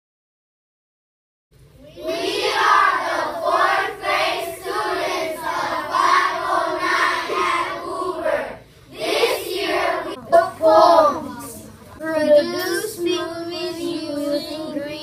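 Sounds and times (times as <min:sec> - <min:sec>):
children singing: 0:01.8 - 0:15.0.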